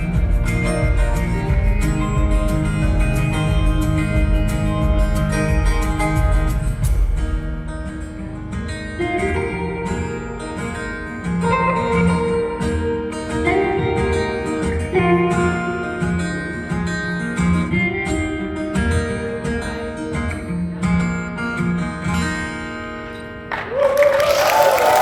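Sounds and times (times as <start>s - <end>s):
folk-pop band with strummed guitar: 0.0s - 23.8s.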